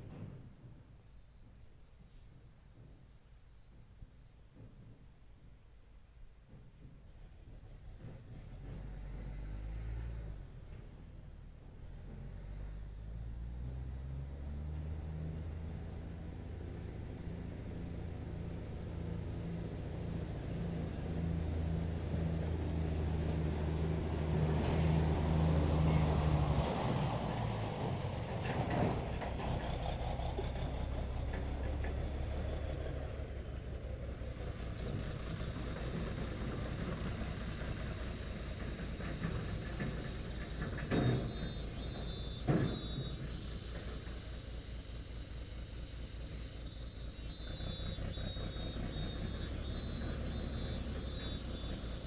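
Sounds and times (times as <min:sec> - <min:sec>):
diesel truck engine running: 0:07.3 - 0:52.0.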